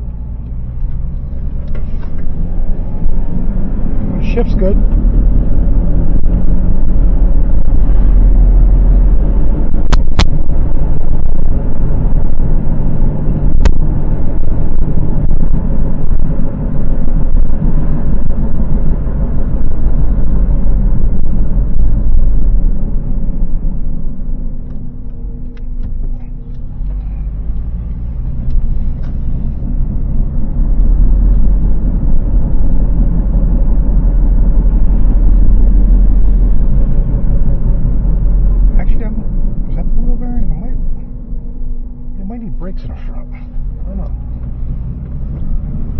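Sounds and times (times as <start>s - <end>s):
low rumbling drone in car cabin: 0.0s - 45.9s.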